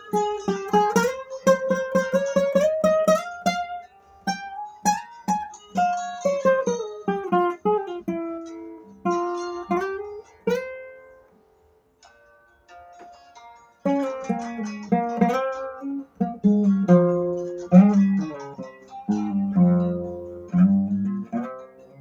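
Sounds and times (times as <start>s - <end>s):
acoustic guitar plucked melody: 0.0s - 22.0s.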